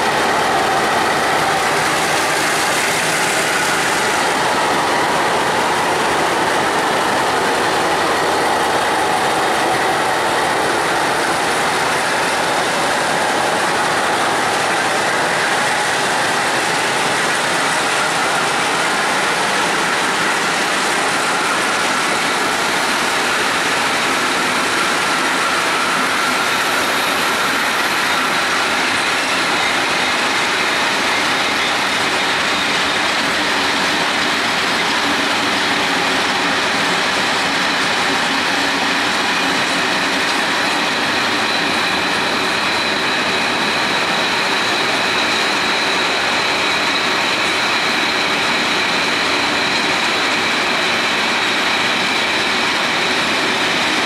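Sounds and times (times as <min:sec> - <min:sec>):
diesel locomotive pulling: 0:00.0 - 0:54.0
freight train wagons clattering: 0:00.0 - 0:54.0.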